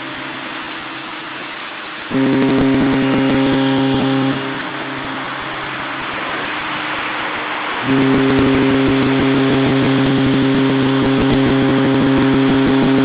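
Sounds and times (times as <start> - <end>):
ship horns blasting: 0.0 - 13.0
steady hiss: 0.0 - 13.0.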